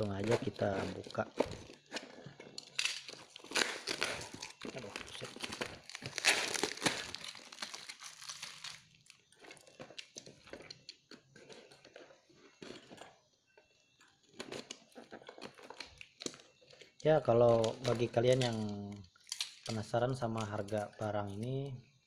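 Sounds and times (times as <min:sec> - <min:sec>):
tape and plastic tearing and crinkling: 0:00.0 - 0:11.9, 0:14.5 - 0:21.6.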